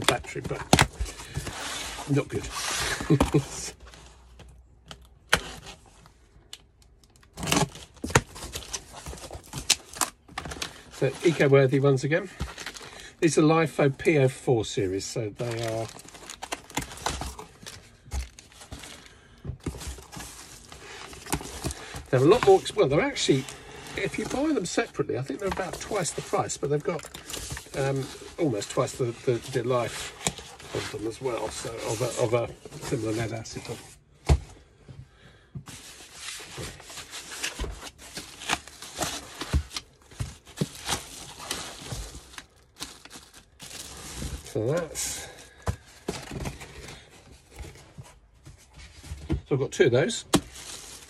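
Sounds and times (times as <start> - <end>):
cardboard and paper rustling: 0.0 - 4.7, 7.3 - 13.1, 15.2 - 34.5, 35.6 - 51.0.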